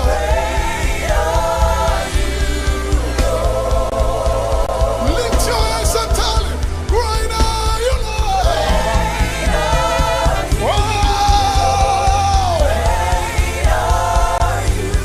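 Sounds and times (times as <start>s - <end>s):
band with steady bass: 0.0s - 15.0s
voices singing gospel: 0.0s - 15.0s.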